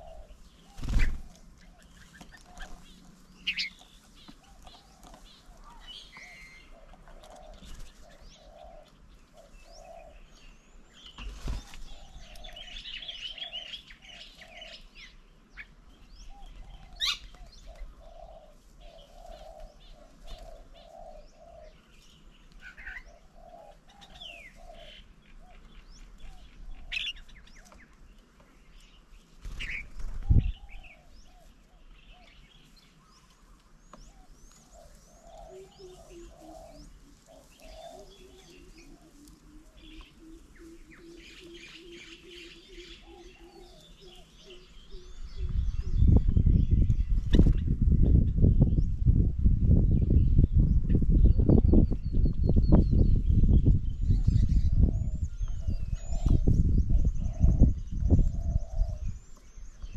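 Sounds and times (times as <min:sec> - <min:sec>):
doves cooing: 0:00.0 - 0:46.1, 0:54.0 - 0:59.9
small birds chirping: 0:00.0 - 0:59.9.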